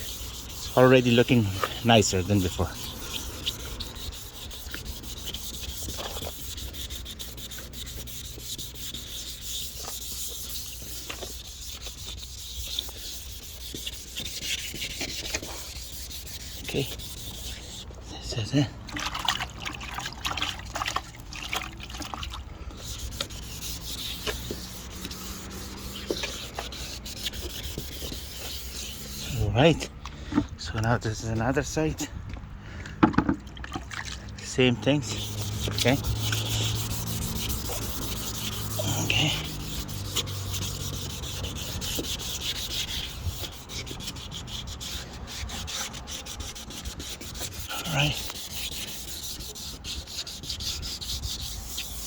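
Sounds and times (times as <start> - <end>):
sandpaper rubbing plastic: 0.0 - 17.9, 22.7 - 29.9, 34.9 - 52.0.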